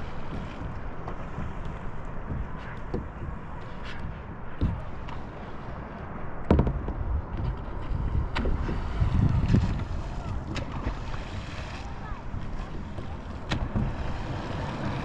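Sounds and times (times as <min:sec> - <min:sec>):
water sloshing against kayak: 0:00.0 - 0:15.0
wind buffeting microphone: 0:00.0 - 0:15.0
knocks against hull: 0:00.1 - 0:05.5, 0:06.4 - 0:11.2, 0:12.3 - 0:14.9.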